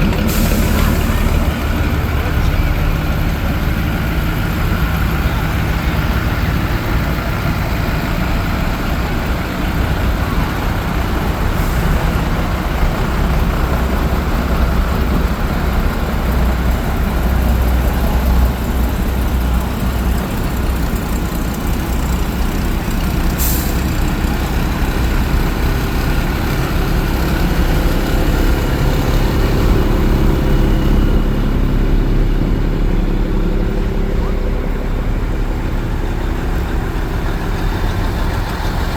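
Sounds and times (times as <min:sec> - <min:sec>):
fire truck engines rumbling: 0:00.0 - 0:38.9
steady engine tone: 0:00.0 - 0:38.9.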